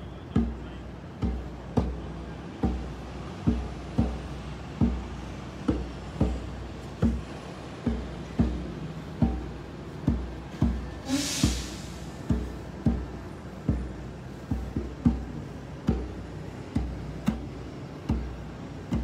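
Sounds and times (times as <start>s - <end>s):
hand drum booming beats: 0.2s - 19.0s.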